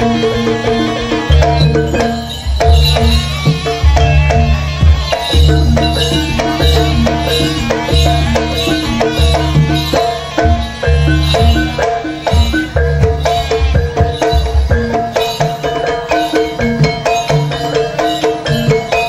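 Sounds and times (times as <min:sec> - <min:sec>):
hand drum strokes: 0:00.0 - 0:19.0
tuned metal percussion: 0:00.0 - 0:19.0.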